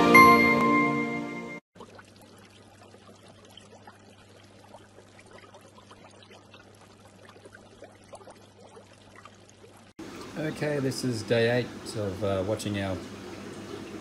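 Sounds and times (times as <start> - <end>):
water bubbling and trickling: 1.7 - 14.0.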